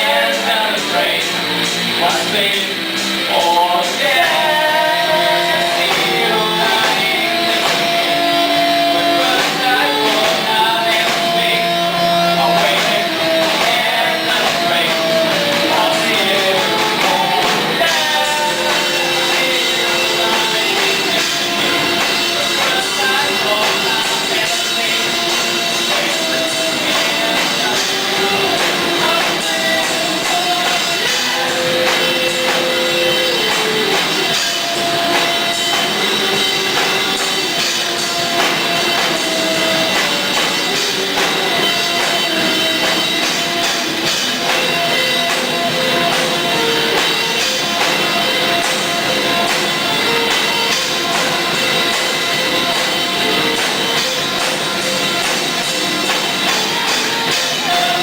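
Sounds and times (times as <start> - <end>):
drum kit beat: 0.0 - 58.0
rock band playing live: 0.0 - 58.0.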